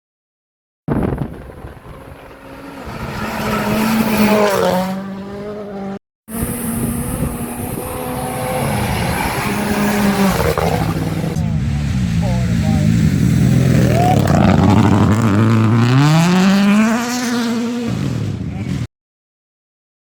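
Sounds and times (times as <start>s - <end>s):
rally car passing by: 0.9s - 18.9s
car engine at high revs: 1.0s - 18.9s.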